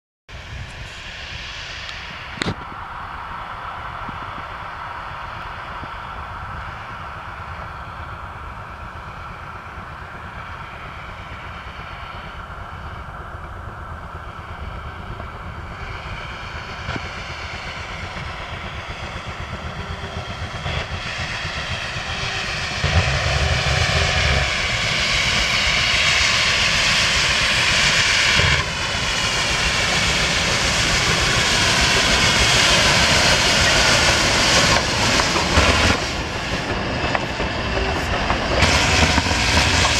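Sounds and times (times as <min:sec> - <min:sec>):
low rumble: 0:00.3 - 0:39.9
steam locomotive exhaust and hiss: 0:00.3 - 0:39.9.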